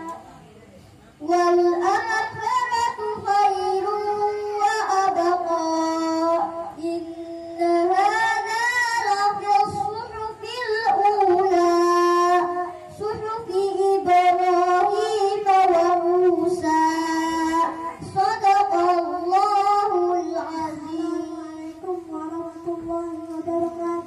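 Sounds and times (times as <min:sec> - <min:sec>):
girl singing into a microphone: 0:01.1 - 0:24.0.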